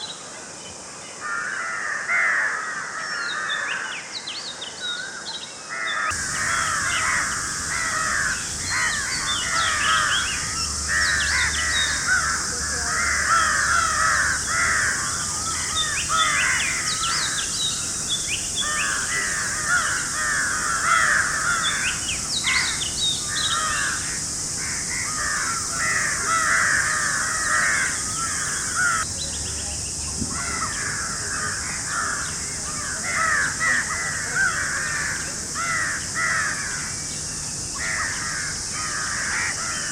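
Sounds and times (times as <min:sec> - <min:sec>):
chorus of bird calls: 0:00.0 - 0:39.9
steady high-pitched hiss: 0:00.0 - 0:39.9.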